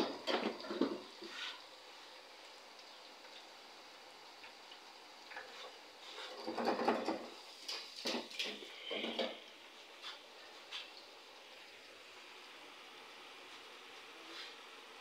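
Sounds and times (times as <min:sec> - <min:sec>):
chips frying in oil: 0:00.0 - 0:15.0.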